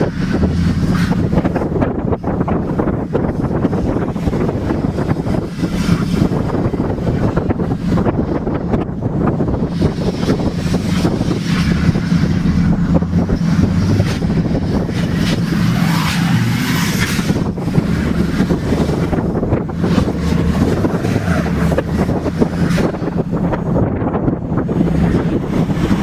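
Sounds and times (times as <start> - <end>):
car engine idling: 0.0 - 26.0
car engine revving: 0.0 - 26.0
wind buffeting microphone: 0.0 - 26.0.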